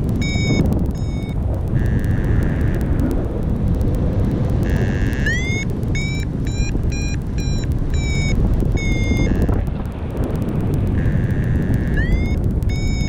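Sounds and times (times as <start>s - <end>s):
variometer beeping: 0.0s - 3.1s, 4.5s - 13.0s
wind noise on microphone: 0.0s - 13.0s.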